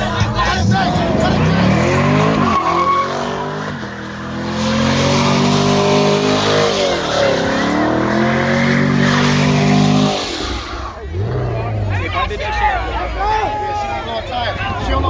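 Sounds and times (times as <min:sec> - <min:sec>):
car engine at high revs: 0:00.0 - 0:12.5
tyres spinning and squealing: 0:00.0 - 0:15.0.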